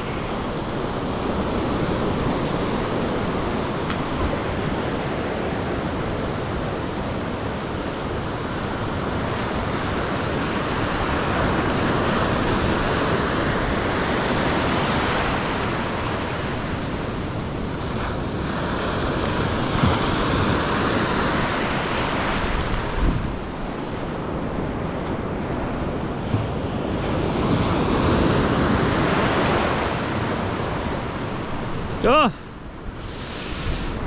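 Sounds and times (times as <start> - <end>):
ocean surf washing on beach: 0.0 - 34.0.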